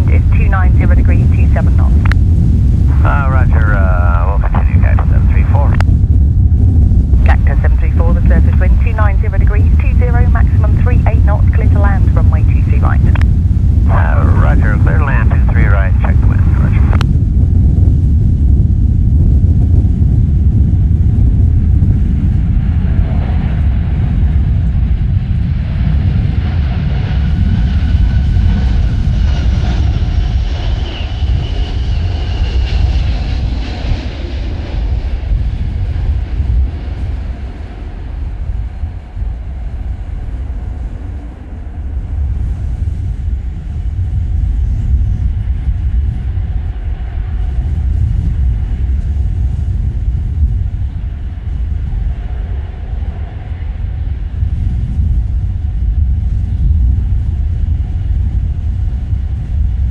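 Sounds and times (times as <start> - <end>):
jet airliner engine whine: 0.0 - 59.9
wind buffeting microphone: 0.0 - 59.9.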